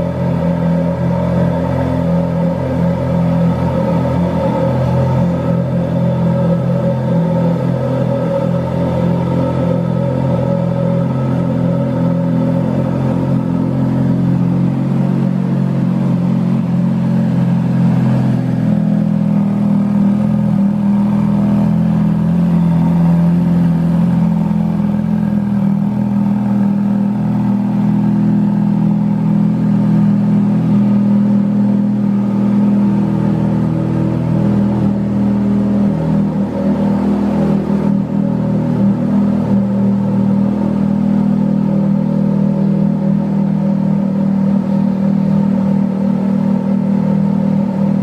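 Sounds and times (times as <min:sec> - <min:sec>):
car engine running steadily: 0:00.0 - 0:48.0.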